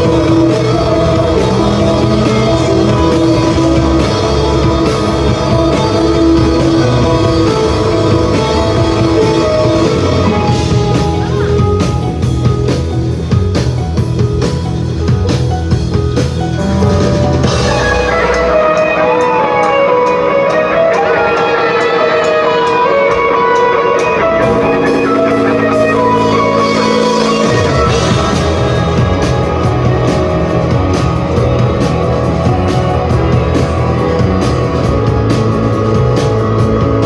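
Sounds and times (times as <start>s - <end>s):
sustained guitar with sliding notes: 0.0s - 13.4s, 16.4s - 37.0s
live rock band playing: 0.0s - 37.0s.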